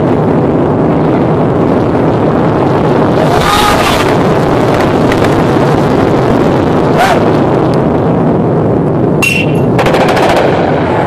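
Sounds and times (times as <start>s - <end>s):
explosion roar: 0.0s - 11.0s
sharp cracks of blasts: 0.0s - 11.0s.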